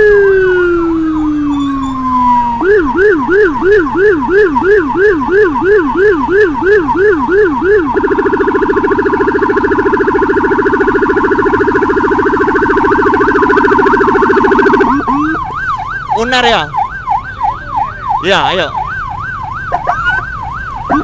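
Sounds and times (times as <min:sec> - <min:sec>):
electronic siren yelp and warble: 0:00.0 - 0:21.0
second siren faint sweeps: 0:00.0 - 0:21.0.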